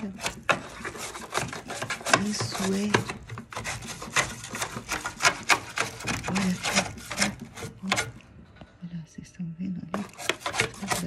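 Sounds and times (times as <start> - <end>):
brush scrubbing grease: 0.0 - 8.2, 10.0 - 11.0.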